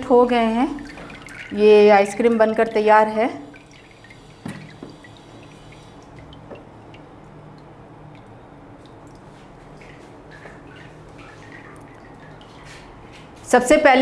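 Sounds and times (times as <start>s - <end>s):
liquid dripping into tank: 0.3s - 13.4s.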